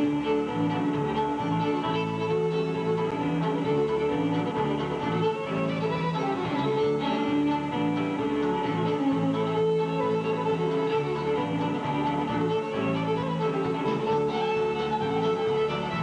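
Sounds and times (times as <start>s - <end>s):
fiddles playing a tune: 0.0s - 16.0s.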